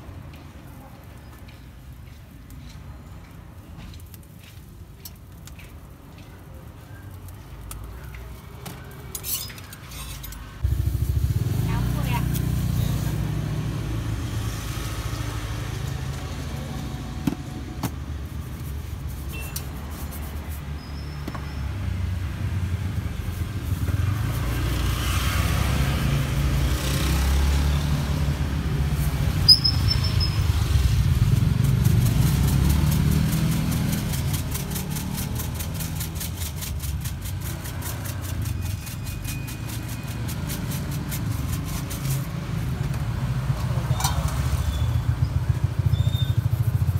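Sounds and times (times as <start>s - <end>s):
street traffic rumble: 0.0s - 46.9s.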